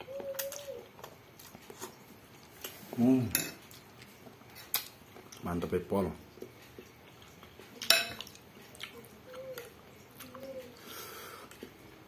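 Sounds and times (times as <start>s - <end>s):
eating and chewing: 0.0s - 12.0s.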